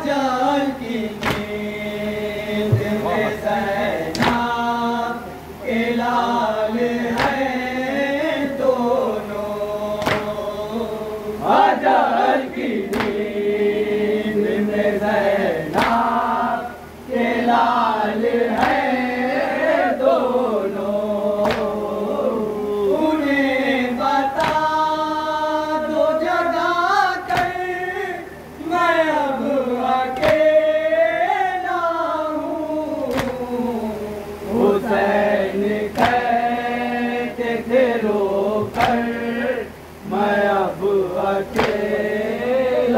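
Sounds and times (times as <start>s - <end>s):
men chanting in unison: 0.0s - 42.9s.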